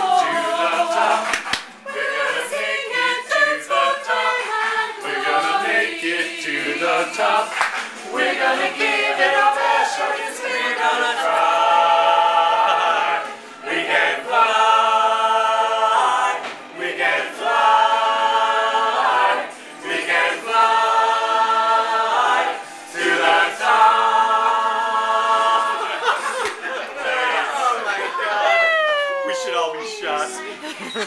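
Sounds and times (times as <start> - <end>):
choir singing in harmony: 0.0 - 28.6.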